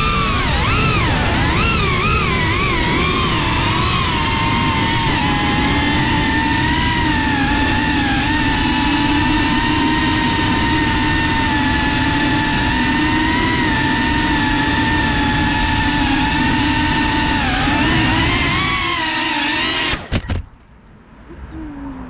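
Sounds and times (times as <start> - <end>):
drone motors whining: 0.0 - 20.4.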